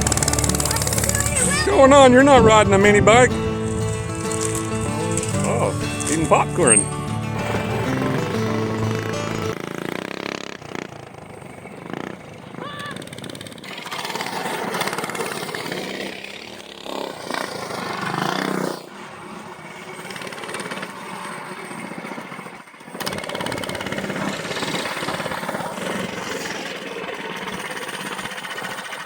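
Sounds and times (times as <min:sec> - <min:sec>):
mini bike engines revving: 0:00.0 - 0:29.0.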